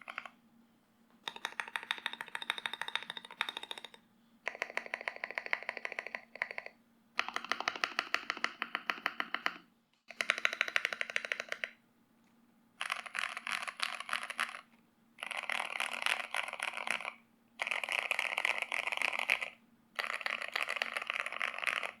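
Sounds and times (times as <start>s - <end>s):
mechanical keyboard typing: 0.0s - 0.4s, 1.2s - 11.8s, 12.8s - 22.0s.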